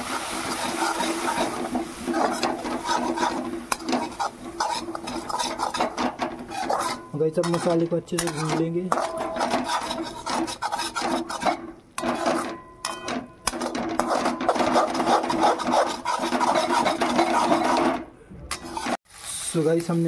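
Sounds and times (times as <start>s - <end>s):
metal spatula scraping a pan: 0.0s - 19.0s.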